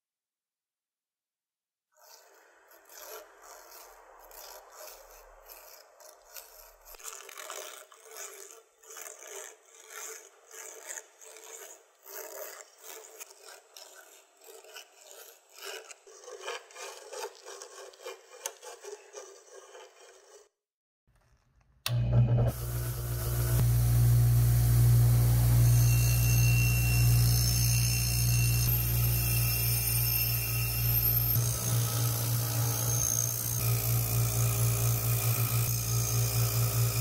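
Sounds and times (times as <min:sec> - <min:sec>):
hand file rasping on metal: 0:02.0 - 0:20.6, 0:25.6 - 0:37.0.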